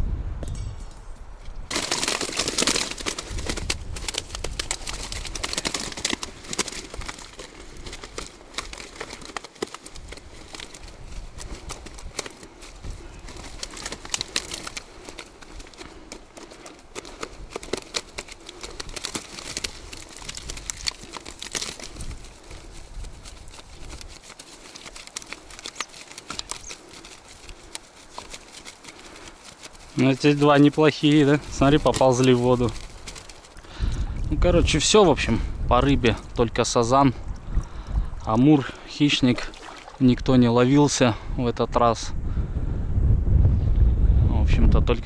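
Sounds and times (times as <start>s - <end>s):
keepnet rustling and crinkling: 1.7s - 40.3s.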